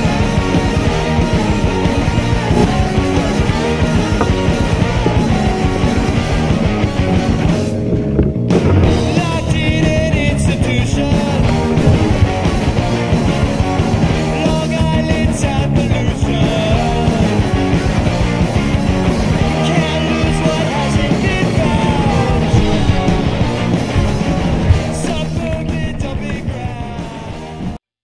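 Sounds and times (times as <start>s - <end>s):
rock music with singing: 0.0s - 27.8s.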